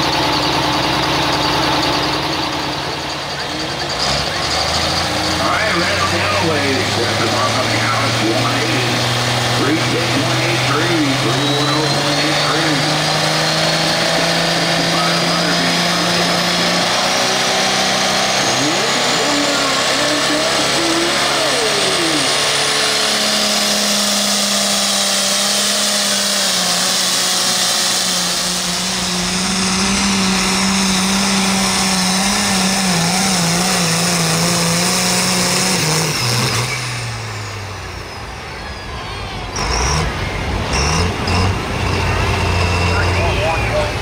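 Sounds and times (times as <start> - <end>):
diesel engine running flat out: 0.0 - 44.0.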